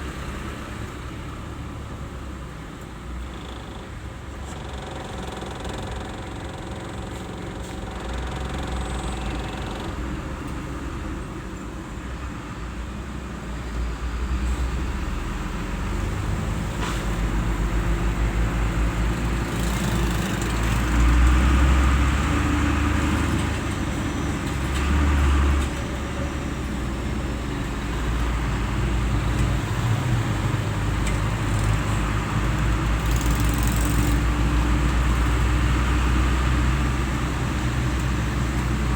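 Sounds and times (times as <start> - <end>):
traffic engines rumbling: 0.0 - 38.9.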